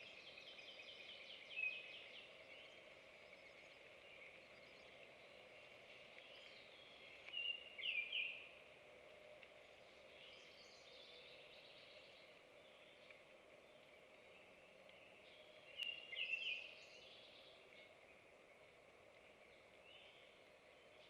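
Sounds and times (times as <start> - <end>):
songbirds calling and singing: 0.0 - 21.0.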